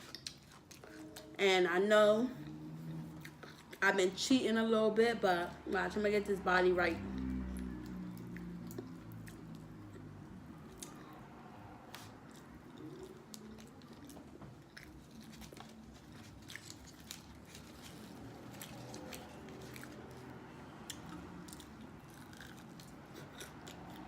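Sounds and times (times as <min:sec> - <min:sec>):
chewing fried food: 0:00.0 - 0:01.4, 0:02.4 - 0:03.9, 0:07.0 - 0:24.0.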